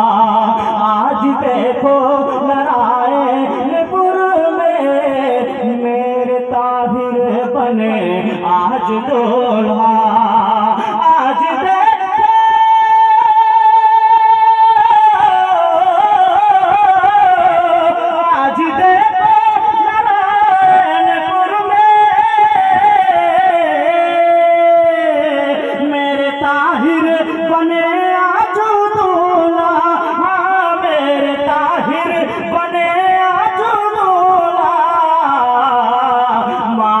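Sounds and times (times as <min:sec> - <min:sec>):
man singing into a microphone: 0:00.0 - 0:37.0.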